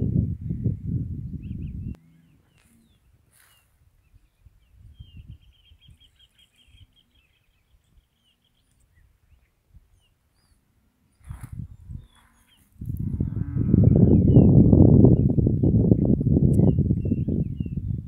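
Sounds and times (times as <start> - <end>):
faint bird chirps and trill: 1.2 - 15.7.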